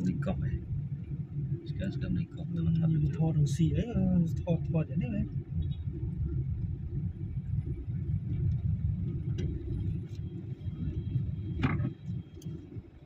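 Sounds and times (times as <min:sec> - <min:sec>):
vehicle interior low rumble: 0:00.0 - 0:13.0.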